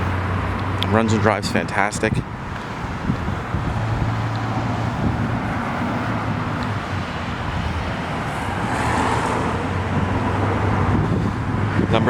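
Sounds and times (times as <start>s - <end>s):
car rushing by: 0.0s - 12.0s
low engine hum: 0.0s - 12.0s.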